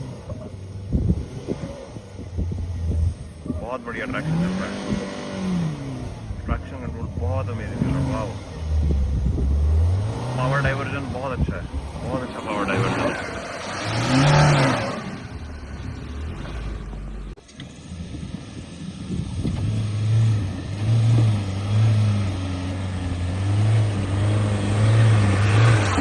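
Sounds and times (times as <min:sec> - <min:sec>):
suv engine running under load: 0:00.0 - 0:26.0.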